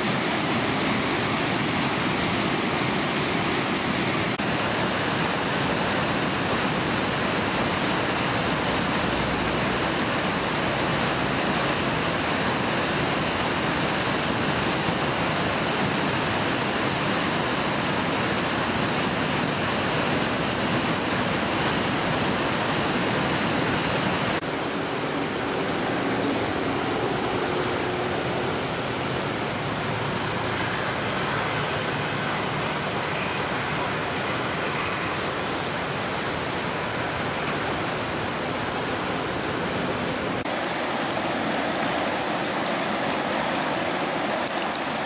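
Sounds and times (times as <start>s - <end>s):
river rushing over rocks: 0.0s - 45.0s.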